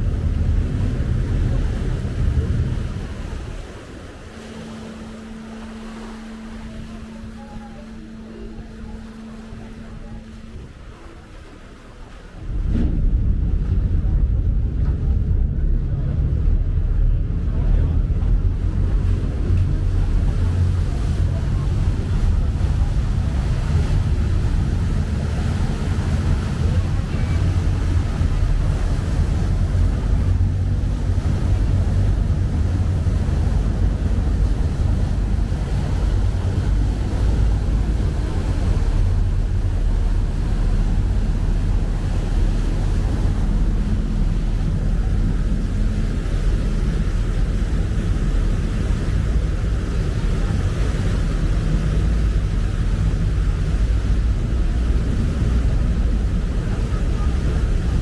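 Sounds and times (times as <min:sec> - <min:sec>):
boat engines rumbling: 0:00.0 - 0:58.0
wind buffeting microphone: 0:00.0 - 0:58.0.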